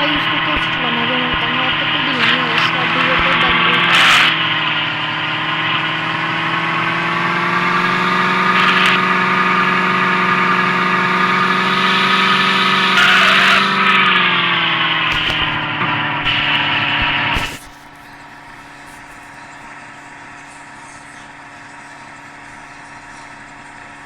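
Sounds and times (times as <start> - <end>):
rushes of noise: 0.0 - 19.6
car engine running: 0.0 - 24.0.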